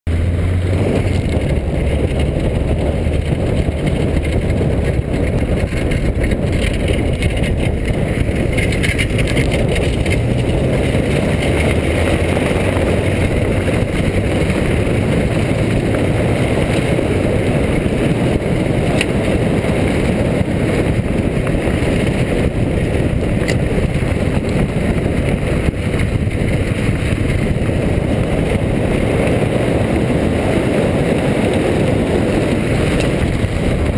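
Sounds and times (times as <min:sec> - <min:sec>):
low engine hum: 0:00.0 - 0:33.9
tyres on gravel and wind noise: 0:00.1 - 0:33.9.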